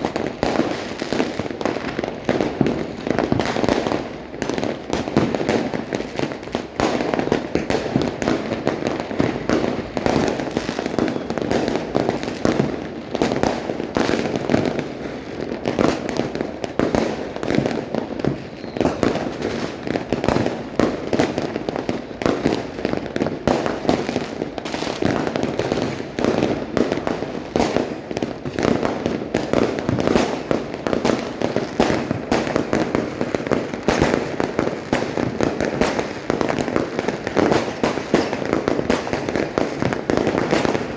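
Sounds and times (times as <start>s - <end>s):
fireworks and firecrackers barrage: 0.0s - 40.9s.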